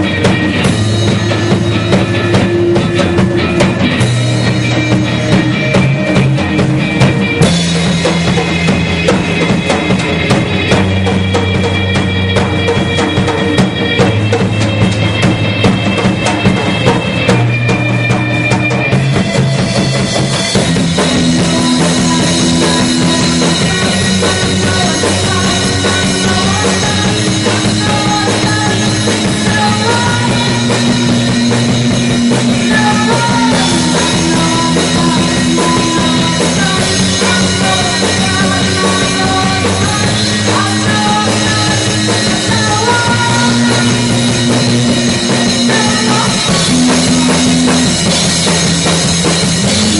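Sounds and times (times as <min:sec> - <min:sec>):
drum kit: 0:00.0 - 0:49.9
rock band playing: 0:00.0 - 0:49.9.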